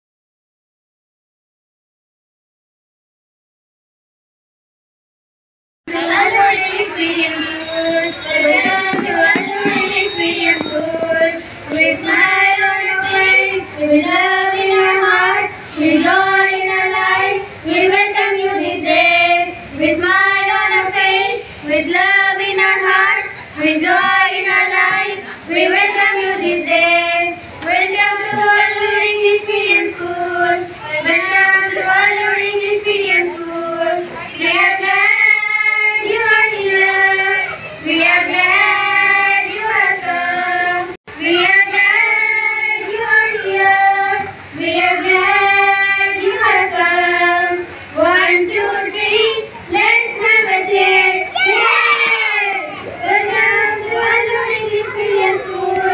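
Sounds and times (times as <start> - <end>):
young female voices singing: 5.9 - 55.9.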